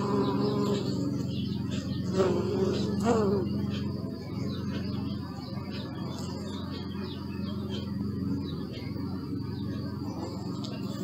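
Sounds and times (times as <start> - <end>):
honeybee buzzing: 0.0 - 11.0.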